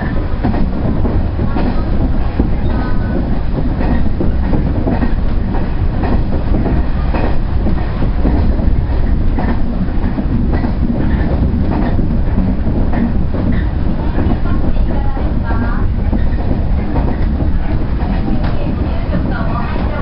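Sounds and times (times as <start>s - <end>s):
rumble of motors and wheels: 0.0s - 20.0s
wheels clicking over rail joints: 0.0s - 20.0s.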